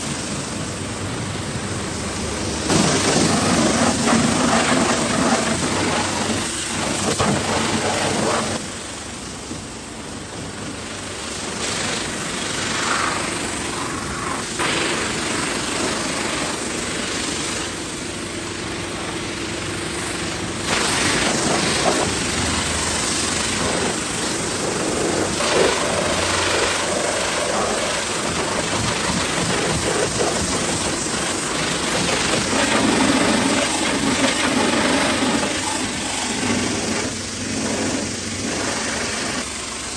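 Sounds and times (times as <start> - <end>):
loud spraying hiss: 0.0 - 39.9
steady mechanical hum: 0.0 - 39.9.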